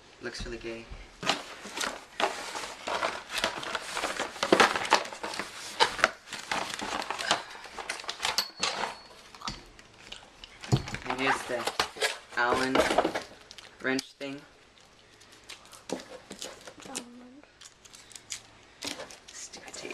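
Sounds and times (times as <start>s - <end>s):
plastic and paper crinkling: 0.7s - 19.9s.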